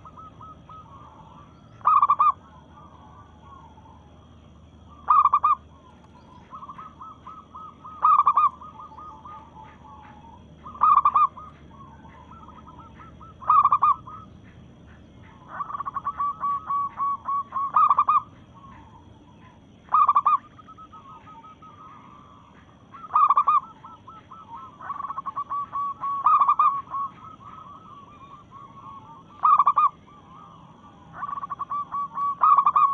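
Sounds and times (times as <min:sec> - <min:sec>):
dove cooing: 0:00.0 - 0:32.9.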